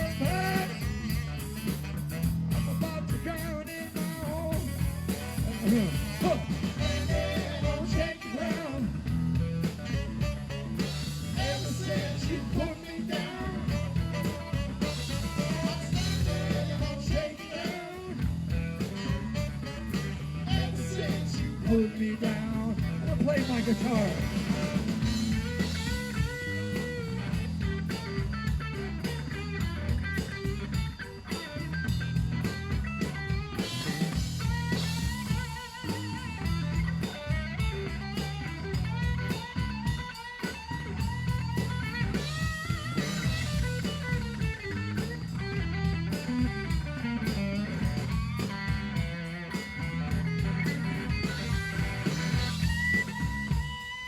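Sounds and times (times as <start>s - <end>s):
bass and drum backing: 0.0s - 54.0s
blues guitar solo: 0.0s - 54.0s.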